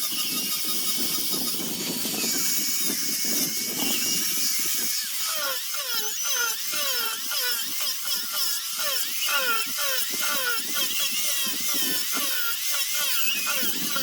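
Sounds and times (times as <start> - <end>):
rotary sanding tool on wood: 0.0 - 14.0.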